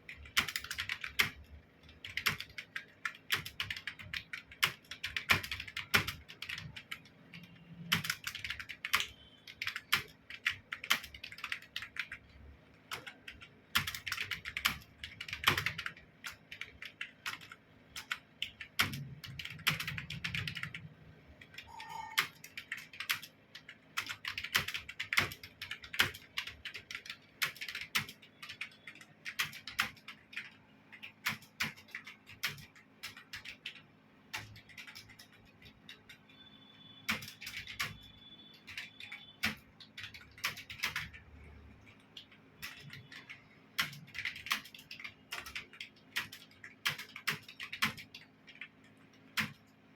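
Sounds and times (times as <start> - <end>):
keyboard typing: 0.0 - 49.9.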